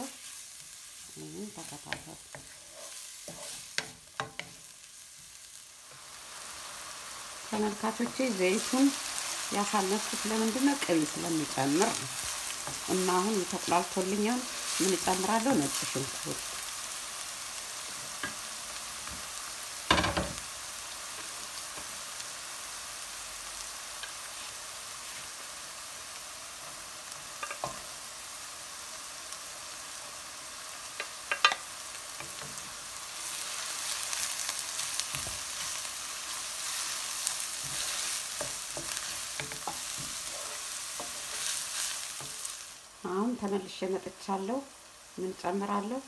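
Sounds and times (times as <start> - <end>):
onion and garlic sizzling in oil: 0.0 - 46.0.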